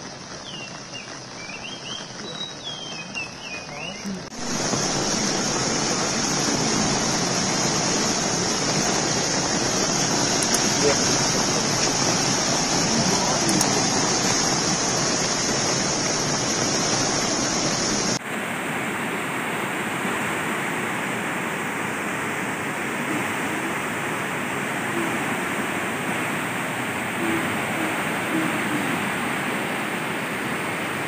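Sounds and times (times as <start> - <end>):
dull river rush: 0.0 - 31.0
floodwater rushing: 0.0 - 31.0.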